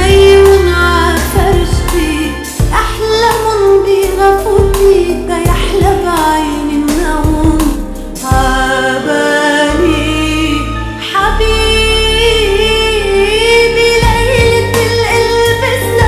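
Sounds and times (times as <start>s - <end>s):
steady bass accompaniment: 0.0s - 16.0s
woman singing: 0.0s - 16.0s.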